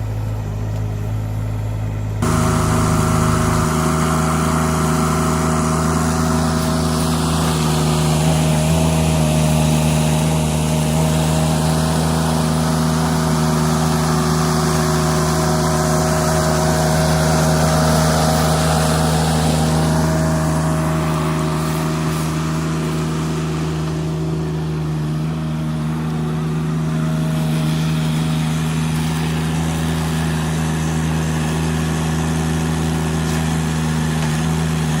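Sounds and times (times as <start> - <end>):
loader engine running steadily: 0.0 - 35.0.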